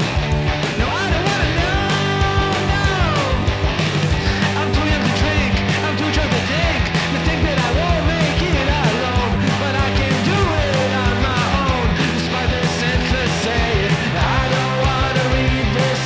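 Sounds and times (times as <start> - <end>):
rock music with singing: 0.0 - 16.0.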